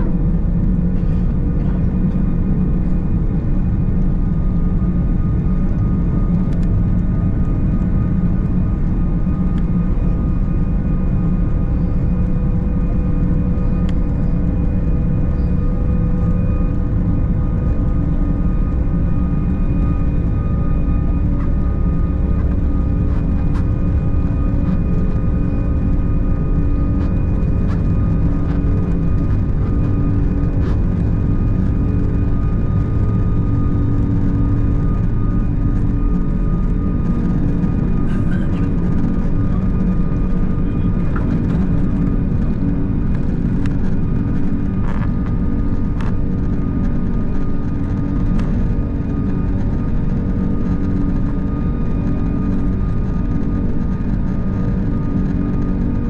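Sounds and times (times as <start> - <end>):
jet engines at takeoff power: 0.0 - 56.0
wheels rumbling on runway: 0.0 - 56.0.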